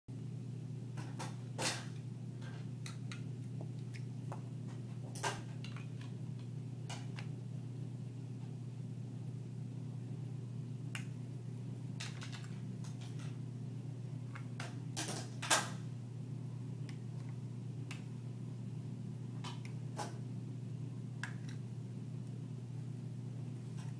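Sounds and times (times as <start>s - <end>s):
steady low hum: 0.1s - 23.9s.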